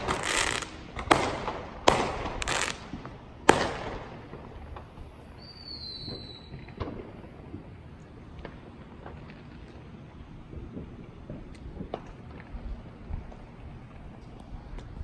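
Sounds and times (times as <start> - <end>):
firework bangs: 0.0 - 13.9
firework crackling: 0.0 - 15.0.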